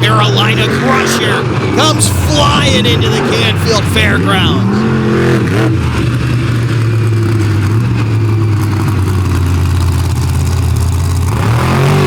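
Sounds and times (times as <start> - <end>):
monster truck engine running hard: 0.0 - 12.0.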